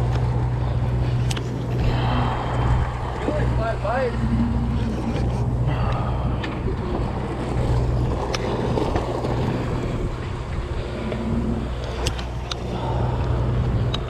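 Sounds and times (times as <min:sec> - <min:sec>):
boat engine droning: 0:00.0 - 0:14.0
water noise: 0:00.0 - 0:14.0
wind: 0:00.0 - 0:14.0.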